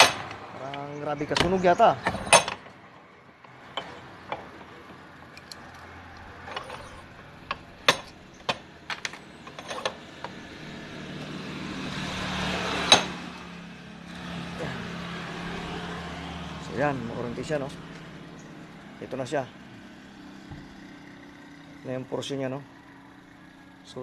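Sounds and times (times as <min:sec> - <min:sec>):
vehicle passing: 0:00.0 - 0:24.0.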